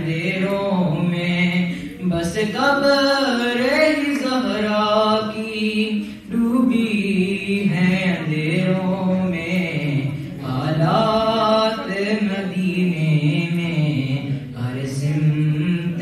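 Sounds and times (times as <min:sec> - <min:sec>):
young man chanting into a microphone: 0:00.0 - 0:16.0.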